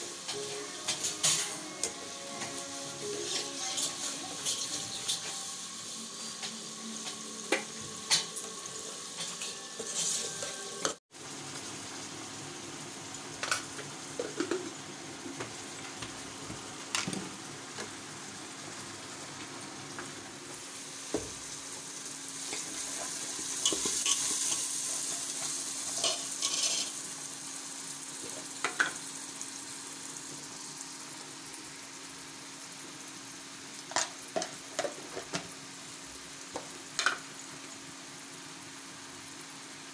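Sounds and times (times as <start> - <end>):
hot oil sizzling: 0.0 - 39.9.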